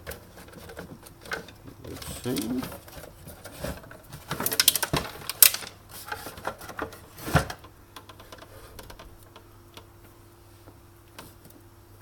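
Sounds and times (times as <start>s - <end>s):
clicks and knocks of machine parts: 0.0s - 9.9s.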